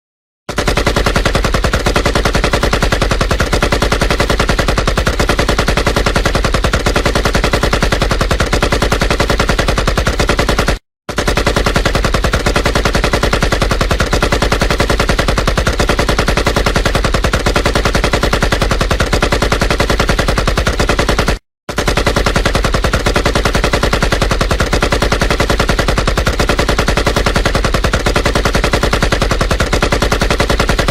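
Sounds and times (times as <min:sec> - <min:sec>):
rifle firing full auto: 0:00.5 - 0:30.9.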